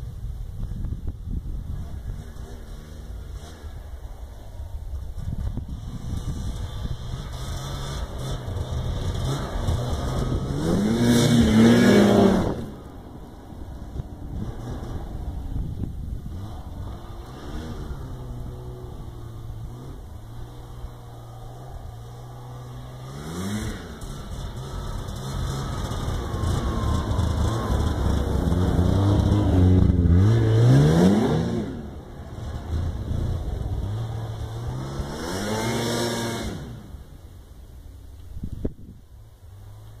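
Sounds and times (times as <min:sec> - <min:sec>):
snowmobile engine revving: 0:01.6 - 0:37.3.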